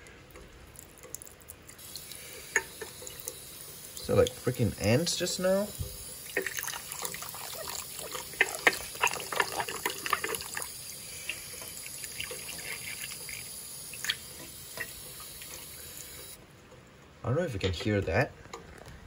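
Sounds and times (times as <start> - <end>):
water splashing in a sink: 0.4 - 16.4
water running into a dish: 0.6 - 16.4.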